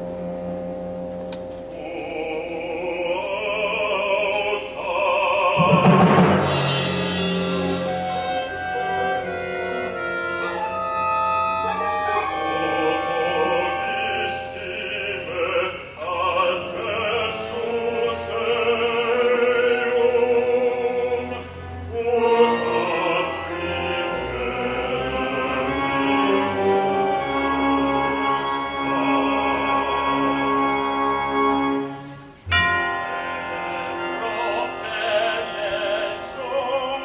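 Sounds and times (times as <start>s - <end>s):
orchestra chords: 0.0s - 37.0s
person singing with vibrato: 1.6s - 37.0s.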